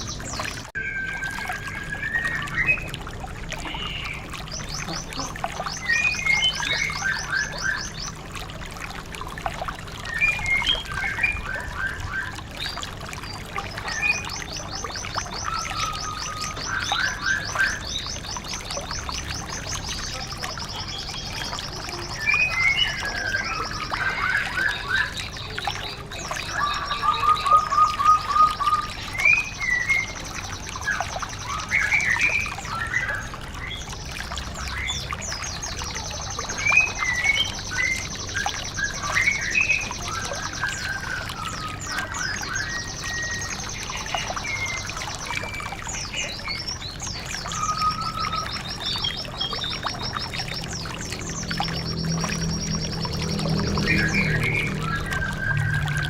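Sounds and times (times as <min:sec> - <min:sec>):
running water trickling: 0:00.0 - 0:56.0
songbird trills and chirps: 0:00.0 - 0:56.0.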